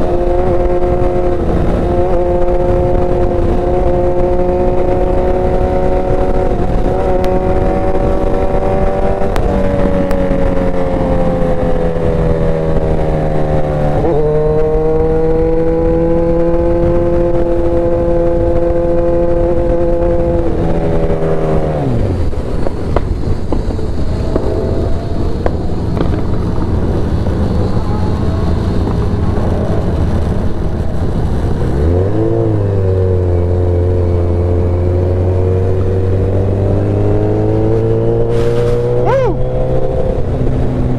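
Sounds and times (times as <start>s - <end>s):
motorcycle engine running: 0.0s - 37.9s
wind noise: 0.0s - 40.9s.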